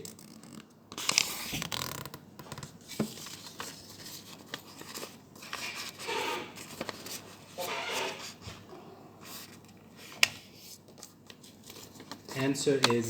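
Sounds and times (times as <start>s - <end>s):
rustling and scraping handling: 0.1s - 13.0s.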